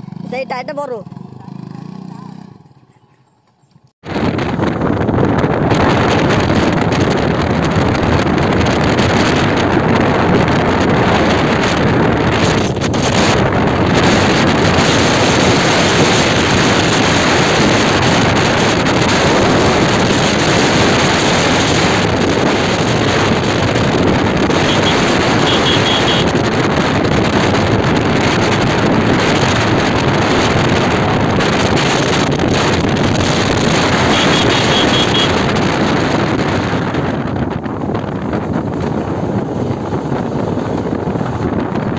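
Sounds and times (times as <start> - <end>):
vehicle travel noise: 0.0 - 41.9
wind buffeting microphone: 3.7 - 41.9.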